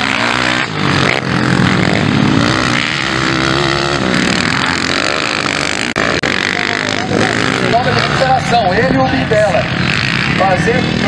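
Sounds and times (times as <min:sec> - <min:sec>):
motocross engines revving: 0:00.0 - 0:11.0.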